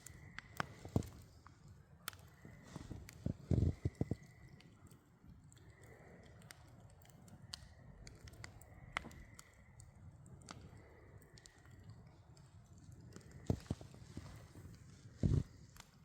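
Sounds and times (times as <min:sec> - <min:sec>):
burning wood pops: 0:00.0 - 0:04.7, 0:06.2 - 0:16.0
campfire crackling: 0:00.0 - 0:16.0.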